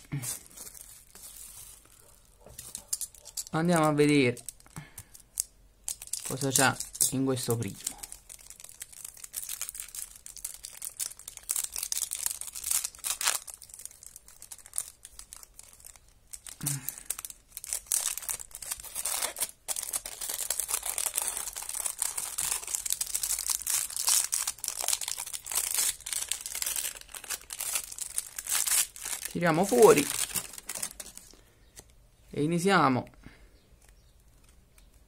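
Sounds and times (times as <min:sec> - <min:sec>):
plastic bag crinkling: 0:00.0 - 0:31.9.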